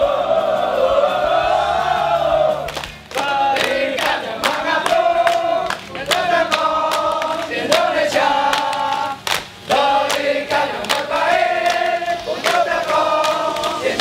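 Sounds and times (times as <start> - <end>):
group singing a chant: 0.0 - 14.0.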